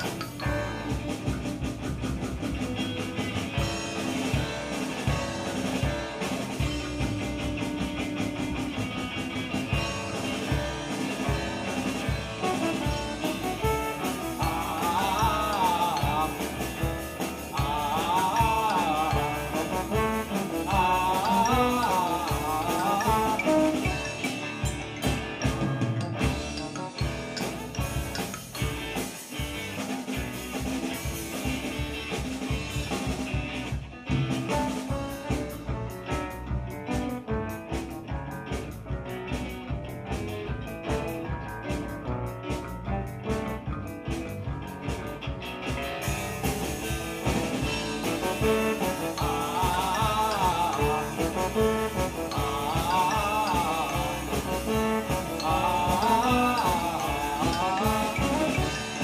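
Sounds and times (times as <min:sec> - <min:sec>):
drum kit: 0:00.0 - 0:59.0
electric guitar: 0:00.0 - 0:59.0
keyboard: 0:00.0 - 0:59.0.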